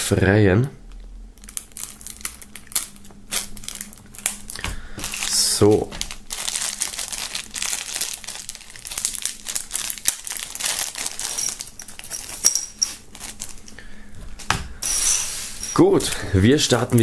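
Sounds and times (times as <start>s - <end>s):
plastic bag crinkling: 1.4s - 17.0s.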